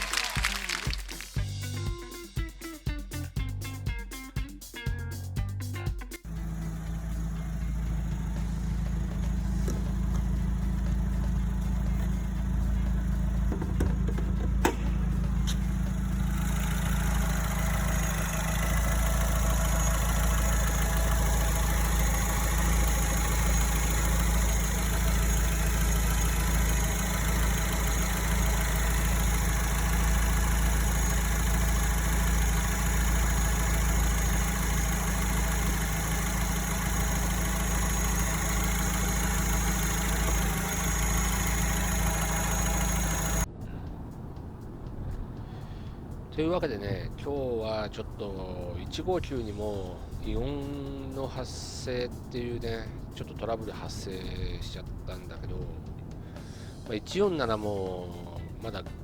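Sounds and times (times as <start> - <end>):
car engine idling: 1.4 - 59.0
engine rattling: 1.4 - 59.0.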